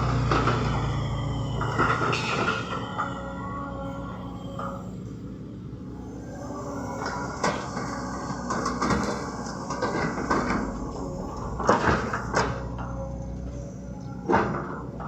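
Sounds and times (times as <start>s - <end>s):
excavator arm clanking: 0.0s - 15.0s
excavator diesel engine running: 0.0s - 15.0s.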